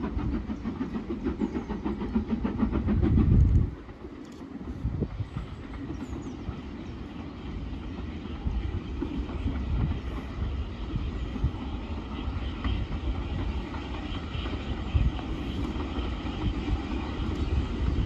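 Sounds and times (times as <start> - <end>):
distant steam locomotive rumble: 0.0 - 18.0.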